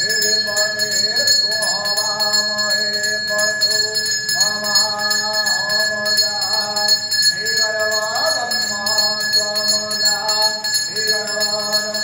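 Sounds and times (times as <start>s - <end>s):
person chanting: 0.0s - 12.0s
temple bells ringing: 0.0s - 12.0s.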